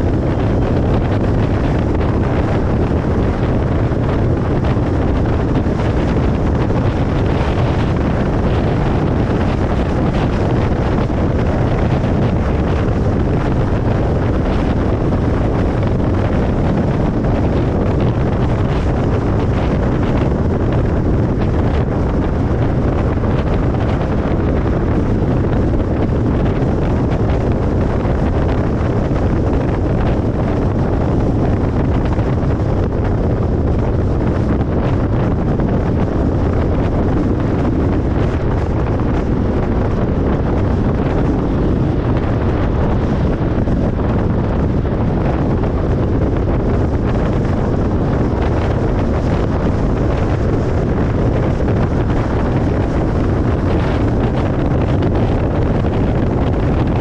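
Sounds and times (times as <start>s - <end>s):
car road noise on highway: 0.0s - 57.0s.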